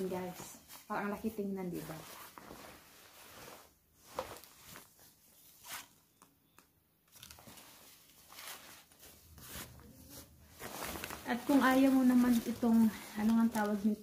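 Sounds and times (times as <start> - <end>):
fabric rustling: 0.0 - 6.2, 7.1 - 14.0.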